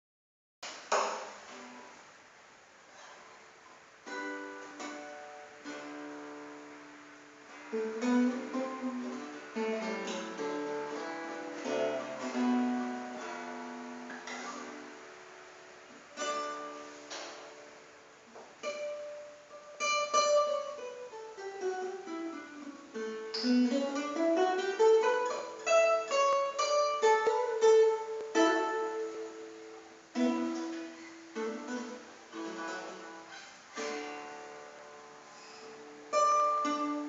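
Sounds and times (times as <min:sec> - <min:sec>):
acoustic guitar playing: 0:00.6 - 0:37.0.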